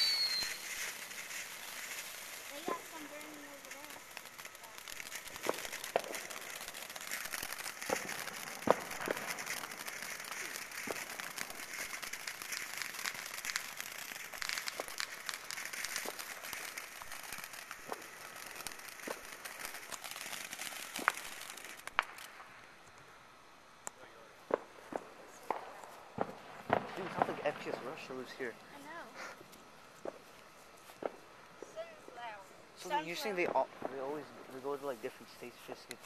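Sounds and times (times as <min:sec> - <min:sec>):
sharp firework pops: 0:00.0 - 0:23.1, 0:23.8 - 0:32.2, 0:32.8 - 0:36.0
firework hissing crackle: 0:00.0 - 0:36.0.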